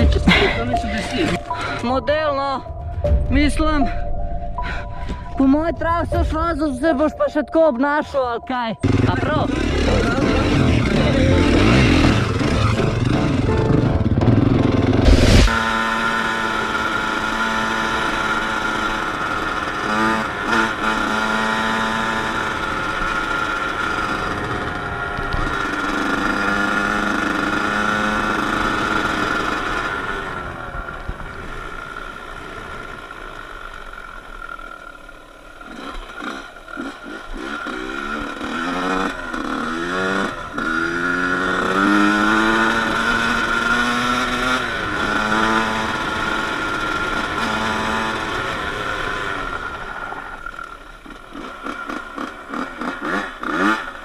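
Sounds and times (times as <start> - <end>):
dirt bike engine revving: 0.0 - 1.8, 8.8 - 54.0.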